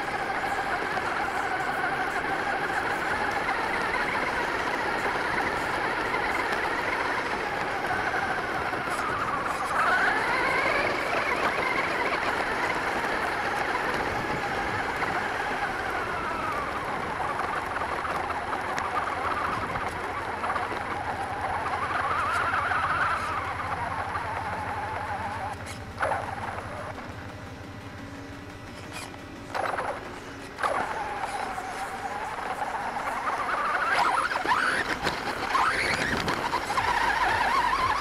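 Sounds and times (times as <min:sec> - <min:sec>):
toy truck motor whining: 0:00.0 - 0:27.4, 0:28.7 - 0:38.0
tyres rushing on gravel: 0:00.0 - 0:38.0.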